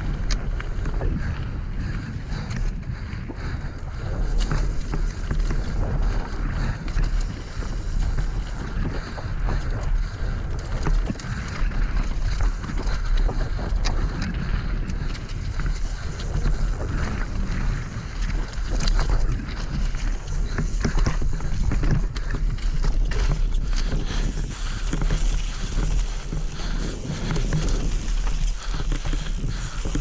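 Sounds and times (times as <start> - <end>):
bike rattling over stones: 0.0 - 30.0
bike tyres rumbling over gravel: 0.0 - 30.0
wind buffeting microphone: 0.0 - 30.0.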